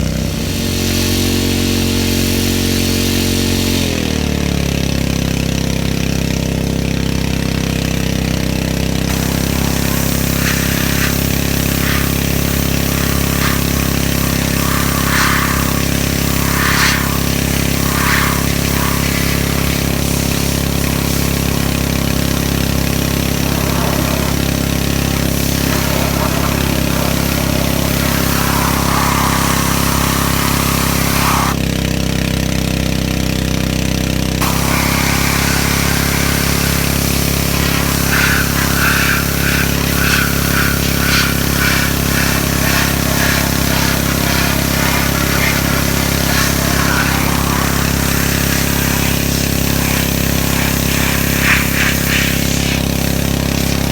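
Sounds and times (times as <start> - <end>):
pressure washer engine hum: 0.0 - 53.9
water spray hissing: 0.3 - 4.0, 9.0 - 31.6, 34.4 - 53.9.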